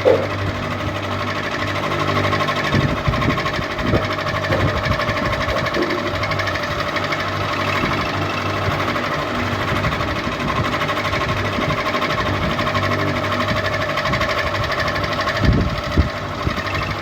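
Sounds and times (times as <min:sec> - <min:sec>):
ceiling fan whirring: 0:00.0 - 0:17.0.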